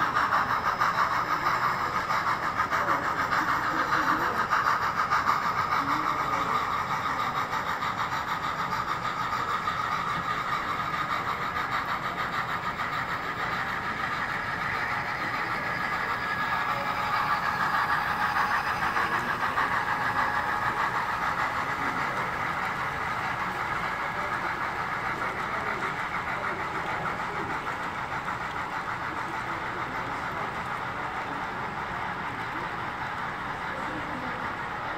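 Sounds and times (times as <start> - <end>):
model train running on track: 0.0 - 34.9.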